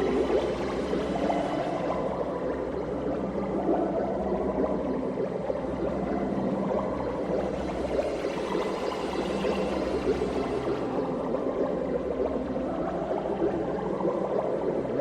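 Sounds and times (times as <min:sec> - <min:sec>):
low water gurgle: 0:00.0 - 0:15.0.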